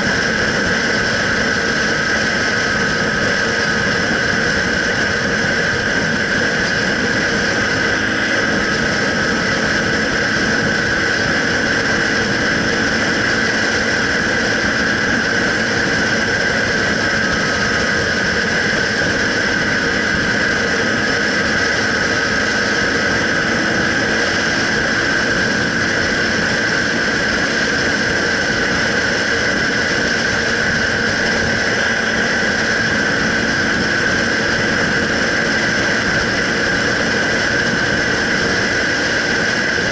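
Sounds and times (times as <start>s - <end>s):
motorcycle engine cruising: 0.0s - 39.9s
steady high whine: 0.0s - 39.9s
wind noise: 0.0s - 39.9s.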